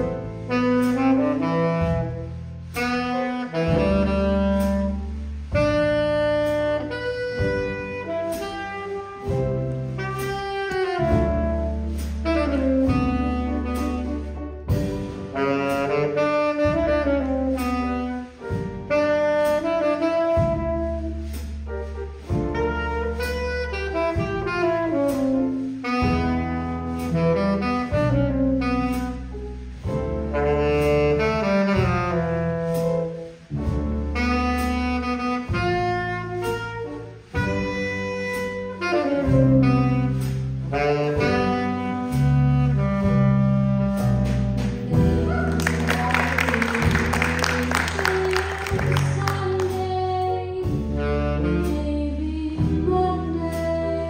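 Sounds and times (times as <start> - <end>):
jazz combo accompaniment: 0.0 - 54.0
saxophone jazz melody: 0.0 - 54.0.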